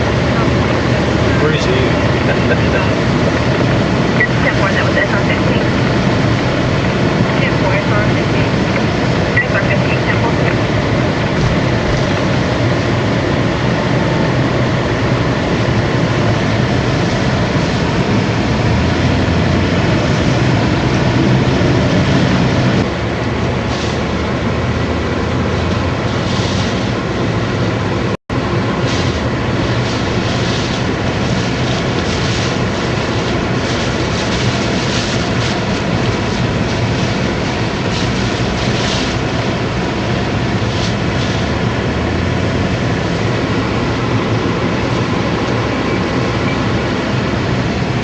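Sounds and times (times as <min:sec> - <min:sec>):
low engine hum: 0:00.0 - 0:48.0
wind and rain rushing: 0:00.0 - 0:48.0.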